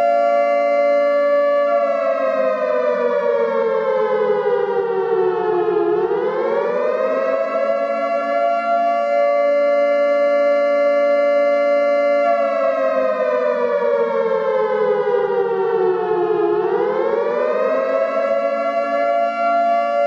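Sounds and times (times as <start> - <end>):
warning siren: 0.0 - 20.0.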